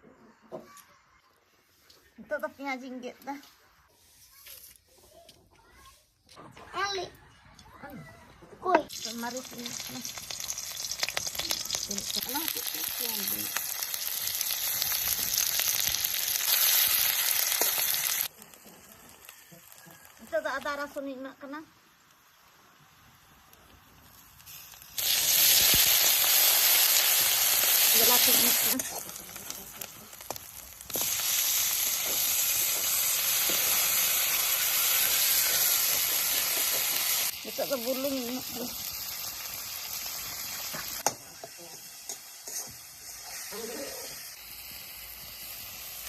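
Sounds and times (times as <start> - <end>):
food sizzling in oil: 8.8 - 46.0.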